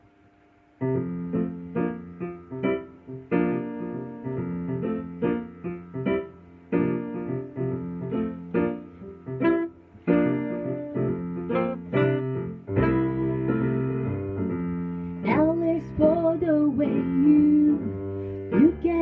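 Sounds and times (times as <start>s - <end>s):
piano chords: 0.6s - 19.0s.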